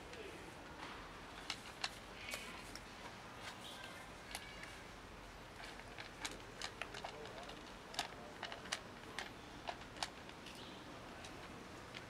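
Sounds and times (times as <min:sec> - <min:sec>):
cats chewing food: 0:00.1 - 0:12.0.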